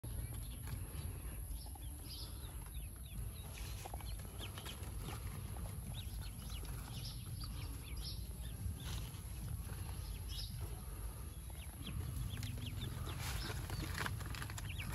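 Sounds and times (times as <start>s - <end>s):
ducklings peeping: 0.0s - 14.9s.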